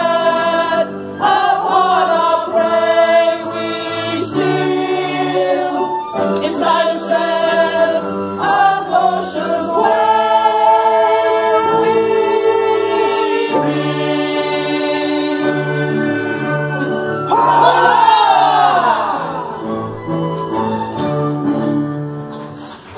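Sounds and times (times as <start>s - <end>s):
chorus singing sustained chords: 0.0s - 19.8s.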